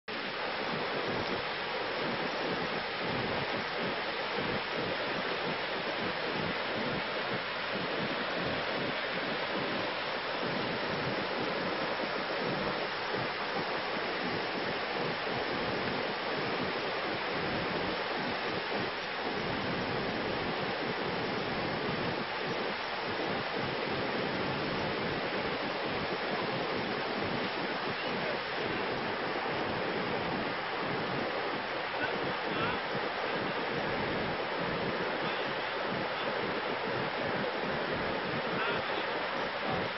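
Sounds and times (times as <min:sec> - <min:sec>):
floodwater rushing in rapids: 0:00.1 - 0:39.9.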